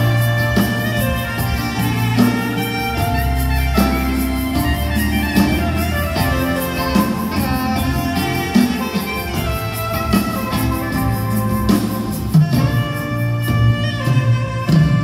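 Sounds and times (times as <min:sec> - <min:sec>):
jazz band playing: 0:00.0 - 0:15.0
saxophone melody: 0:00.0 - 0:15.0
steady cymbal beat: 0:00.0 - 0:15.0.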